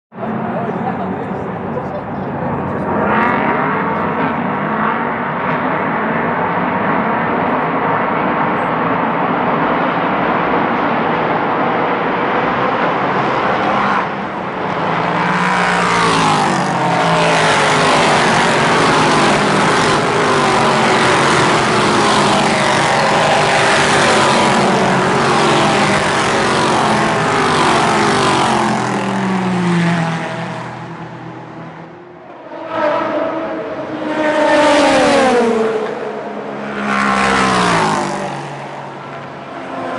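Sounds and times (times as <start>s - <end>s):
race cars passing at high revs: 0.1s - 39.9s.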